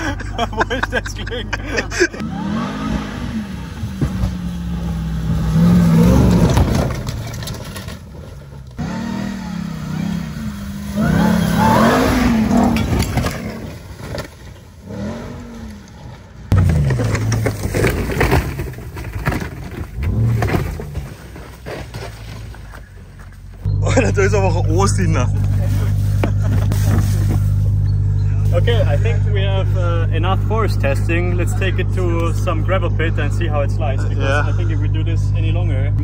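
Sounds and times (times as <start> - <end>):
truck engine revving: 1.8 - 36.0.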